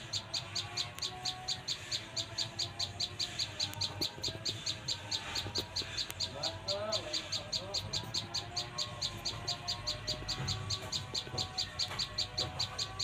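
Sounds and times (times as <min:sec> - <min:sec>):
lower wavering bird calls: 0:00.0 - 0:13.0.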